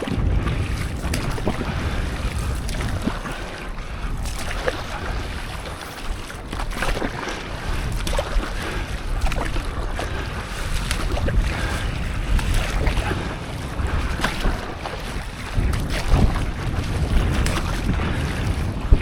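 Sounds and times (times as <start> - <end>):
water sloshing and splashing: 0.0 - 19.0
wind rumble on microphone: 0.0 - 19.0.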